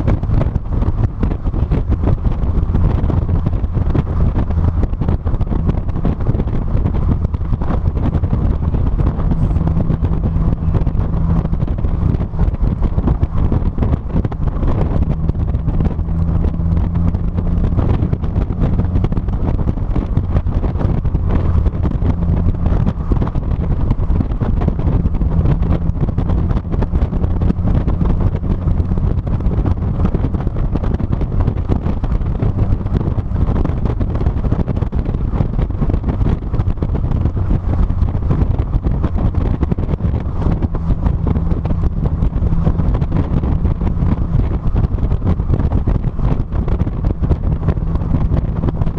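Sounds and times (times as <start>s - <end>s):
car engine hum: 0.0s - 48.9s
road rumble: 0.0s - 48.9s
wind buffeting microphone: 0.0s - 48.9s.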